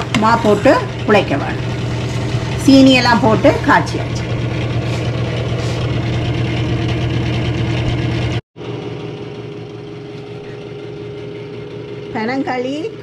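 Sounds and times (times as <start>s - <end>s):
kitchen fan motor hum: 0.0s - 13.0s.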